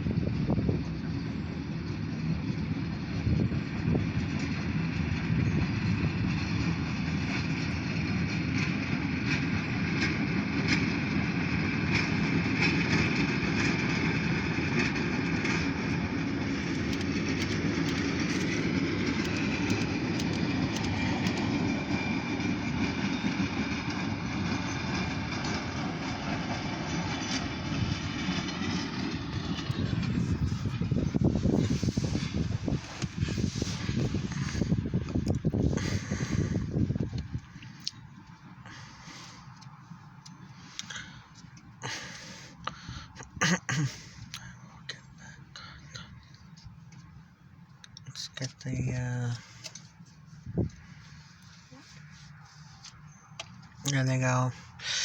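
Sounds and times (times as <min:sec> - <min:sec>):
wheels clicking on track: 0:00.0 - 0:43.4, 0:49.3 - 0:55.0
locomotive engine rumble: 0:00.0 - 0:55.0.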